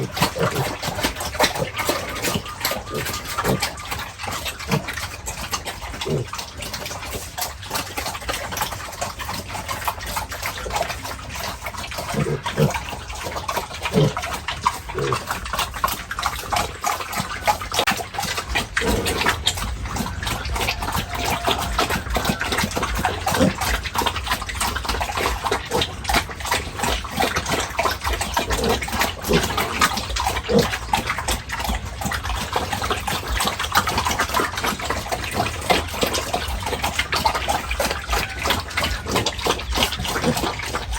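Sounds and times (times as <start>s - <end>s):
pigs feeding clicking and smacking: 0.0s - 40.9s
pigs grunting: 0.0s - 40.9s.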